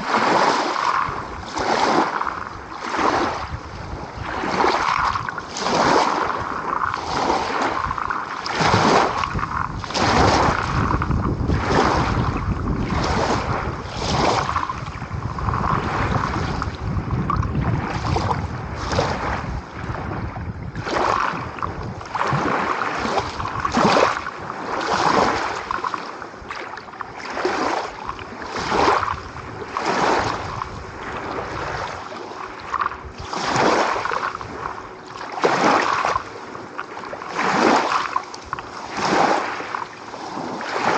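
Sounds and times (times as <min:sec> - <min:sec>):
small waves breaking on shore: 0:00.0 - 0:40.9
water splash: 0:00.0 - 0:40.9
wind rumble on microphone: 0:00.0 - 0:40.9.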